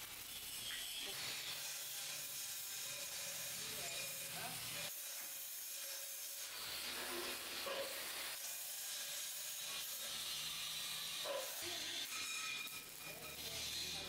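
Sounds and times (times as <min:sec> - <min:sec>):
welding arc hissing: 0:00.0 - 0:14.0.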